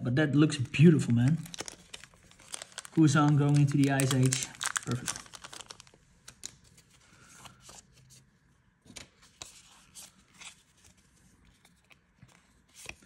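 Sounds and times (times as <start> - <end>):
cards clicking and rustling: 0.8 - 7.8, 8.9 - 13.0.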